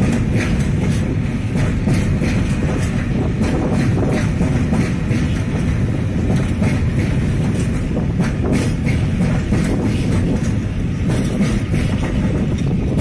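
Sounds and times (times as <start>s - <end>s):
train wheels rumbling on rails: 0.0s - 13.0s
wheels clacking over rail joints: 0.0s - 13.0s.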